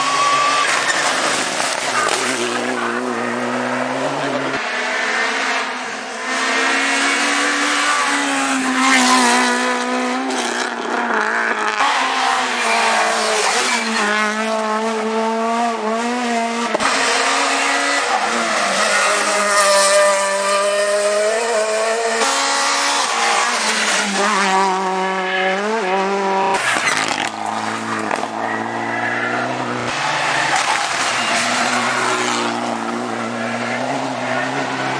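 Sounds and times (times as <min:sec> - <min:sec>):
rally car engines revving hard: 0:00.0 - 0:34.9.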